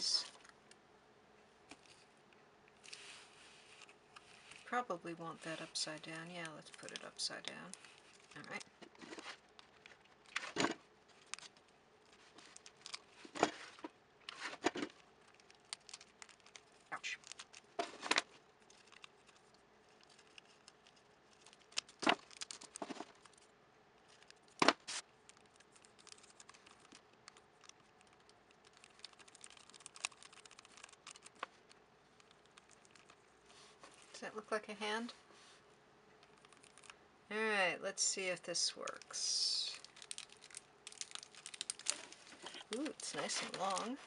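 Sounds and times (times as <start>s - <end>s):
foil wrappers crinkling: 2.8s - 34.2s, 36.2s - 37.0s, 38.8s - 44.0s.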